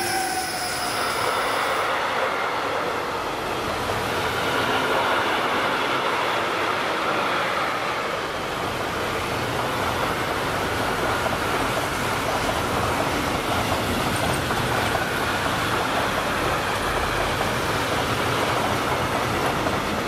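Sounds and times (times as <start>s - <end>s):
freight train rolling past: 0.0s - 20.0s.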